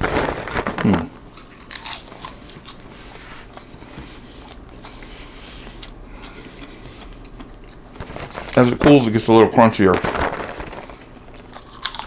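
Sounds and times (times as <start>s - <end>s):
person chewing popcorn: 0.0s - 8.6s, 10.3s - 12.0s.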